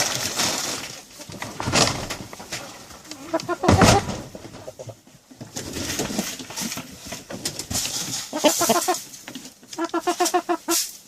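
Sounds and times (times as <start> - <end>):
rustling and scratching: 0.0 - 11.0
chickens clucking: 1.1 - 10.9.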